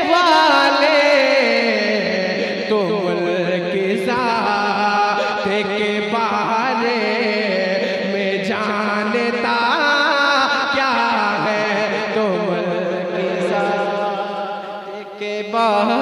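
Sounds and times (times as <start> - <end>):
man singing through loudspeakers: 0.0 - 16.0.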